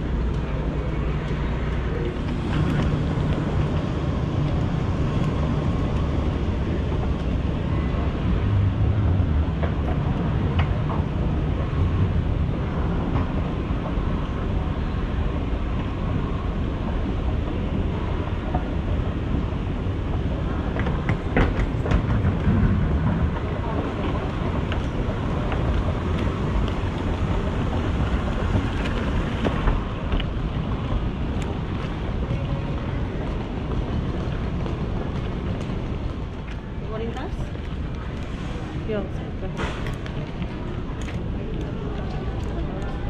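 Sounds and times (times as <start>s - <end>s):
escalator rumbling: 0.0s - 43.0s.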